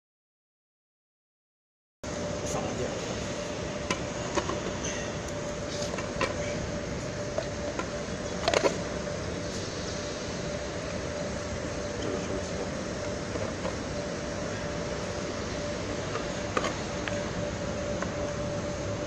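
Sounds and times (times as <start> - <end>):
machine hum: 2.0 - 19.0.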